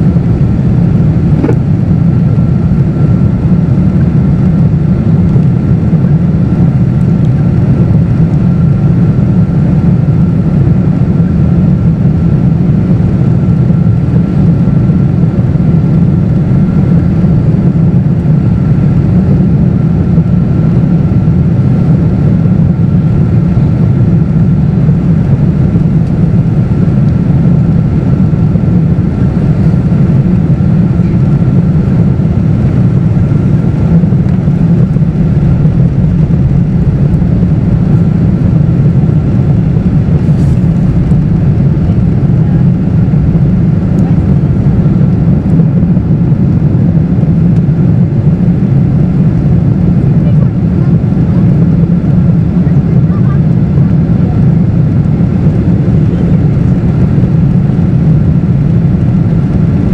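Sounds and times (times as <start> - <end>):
airplane cabin roar: 0.0 - 59.9
faint steady whine: 0.0 - 59.9.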